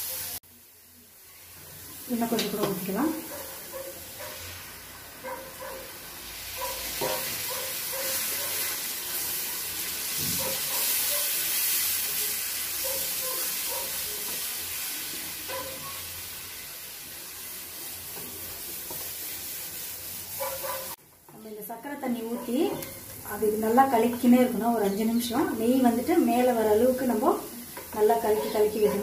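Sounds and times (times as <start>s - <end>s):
syrup sizzling in hot pan: 0.0s - 29.0s.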